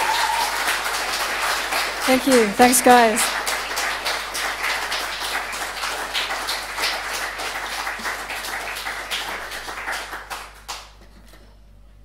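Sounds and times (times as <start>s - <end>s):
small audience clapping: 0.0s - 11.5s.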